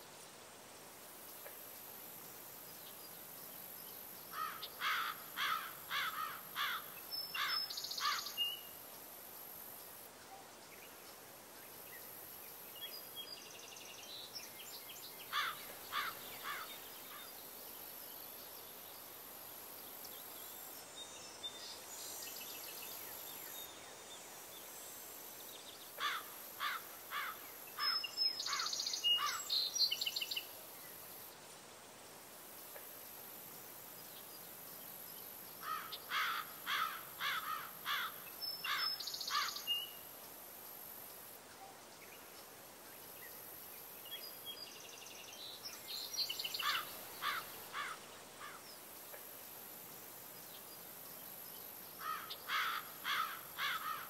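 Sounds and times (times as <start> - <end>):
faint high hiss: 0.0 - 54.0
songbird singing: 0.8 - 31.5, 32.6 - 54.0.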